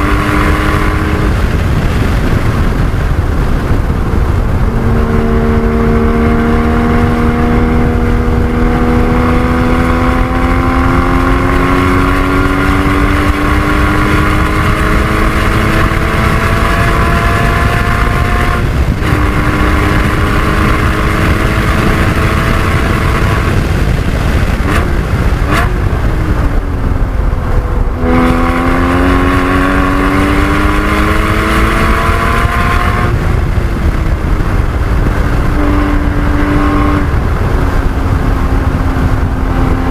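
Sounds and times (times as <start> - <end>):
car engine revving under load: 0.0 - 39.9
wind and road rumble: 0.0 - 39.9.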